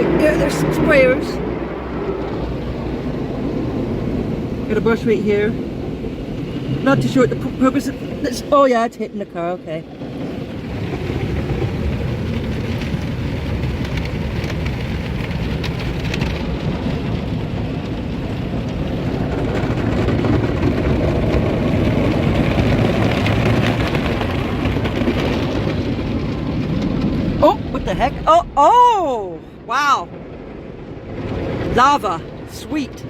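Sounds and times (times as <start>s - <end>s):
water spraying on car: 0.0s - 29.0s.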